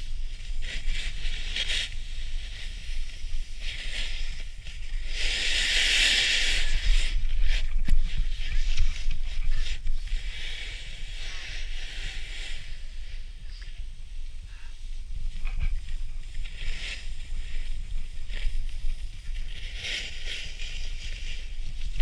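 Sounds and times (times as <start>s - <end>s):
snowboard scraping over snow: 0.0s - 22.0s.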